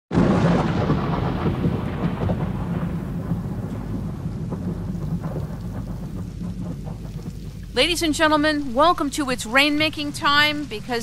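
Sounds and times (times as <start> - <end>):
steady rain: 0.1 - 11.0
thunder rumbling: 0.1 - 11.0.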